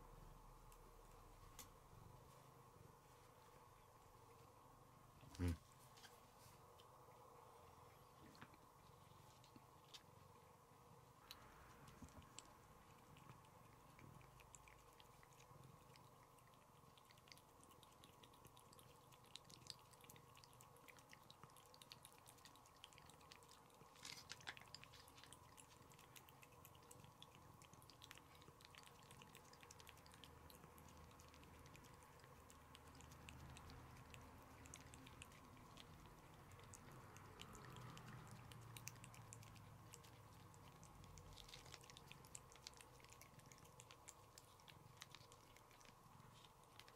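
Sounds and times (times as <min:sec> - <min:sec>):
faint steady hum: 0:00.0 - 0:46.9
cat licking: 0:00.9 - 0:46.9.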